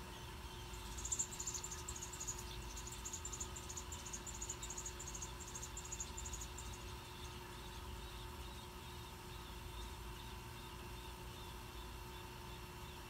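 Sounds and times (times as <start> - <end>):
nestling birds chirping: 0.0 - 13.0.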